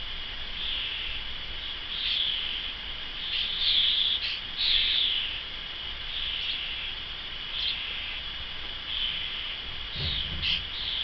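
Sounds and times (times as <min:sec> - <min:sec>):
fledgling starlings begging calls: 0:00.0 - 0:11.0.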